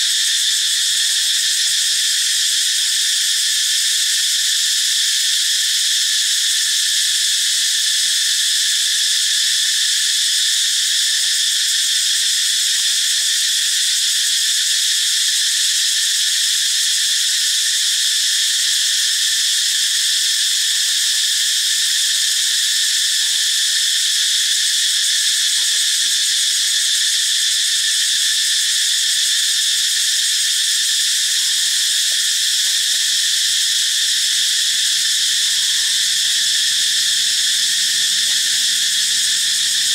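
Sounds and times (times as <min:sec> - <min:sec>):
tropical insects droning: 0:00.0 - 0:39.9.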